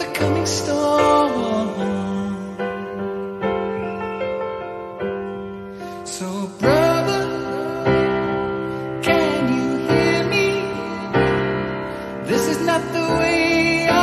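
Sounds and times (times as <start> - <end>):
man singing a slow ballad: 0.0 - 3.4, 5.7 - 14.0
piano chords: 0.0 - 14.0.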